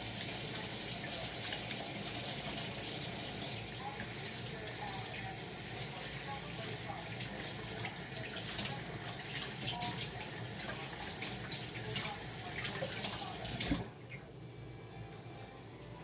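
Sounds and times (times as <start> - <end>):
tap water running into sink: 0.0 - 14.3.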